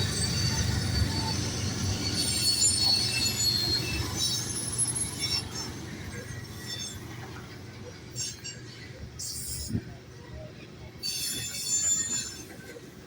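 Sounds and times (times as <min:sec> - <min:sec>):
rumble of rolling rail cars: 0:00.0 - 0:13.0
train wheels squealing: 0:00.0 - 0:13.0.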